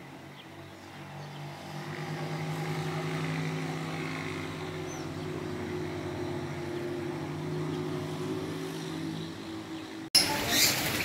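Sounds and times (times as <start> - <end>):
low engine hum: 0.0 - 10.1.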